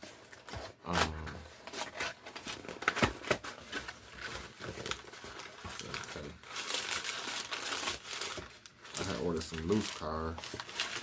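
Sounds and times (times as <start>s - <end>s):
package rustling and clicks: 0.2s - 11.0s.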